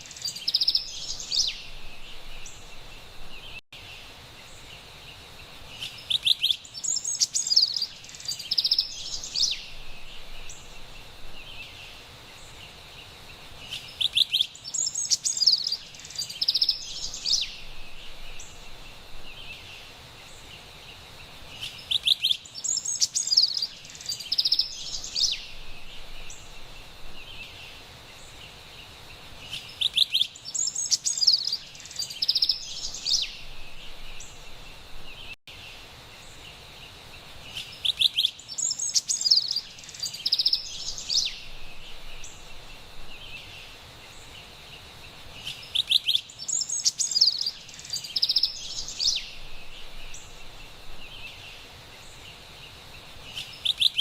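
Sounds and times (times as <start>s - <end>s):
faint steady hiss: 0.0s - 54.0s
wren singing rolling notes: 0.0s - 54.0s.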